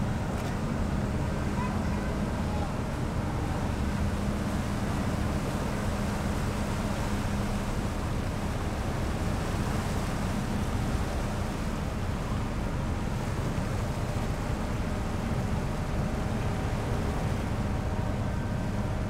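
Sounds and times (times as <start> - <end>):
ferry engines droning: 0.0 - 19.0
propeller wash churning water: 0.0 - 19.0.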